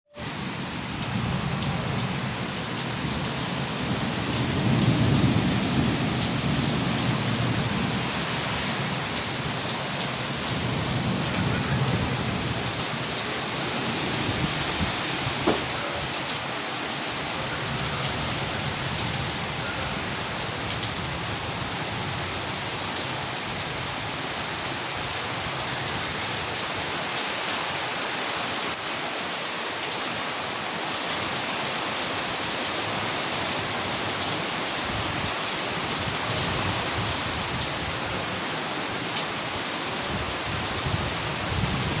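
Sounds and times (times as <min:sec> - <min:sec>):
rain falling: 0:00.2 - 0:42.0.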